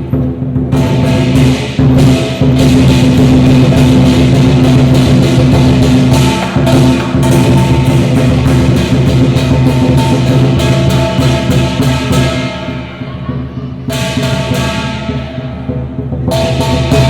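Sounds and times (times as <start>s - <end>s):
big drum beating: 0.0s - 17.0s
cymbals clashing: 0.0s - 17.0s.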